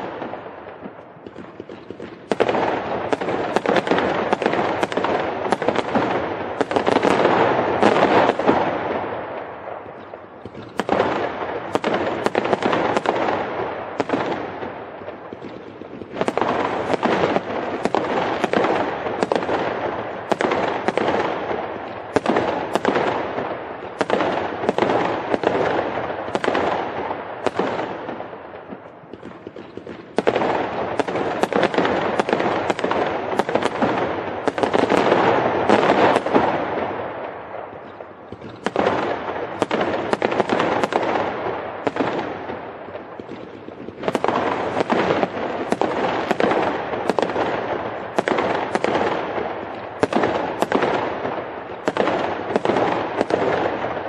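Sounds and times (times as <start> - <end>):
firecrackers crackling: 0.0 - 54.0
firework bangs: 0.0 - 54.0.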